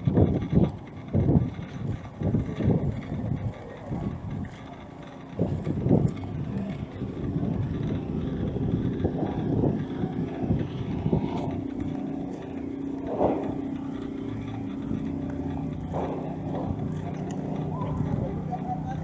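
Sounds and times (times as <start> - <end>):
steady hum: 0.0 - 19.0
vehicle engine running: 0.0 - 19.0.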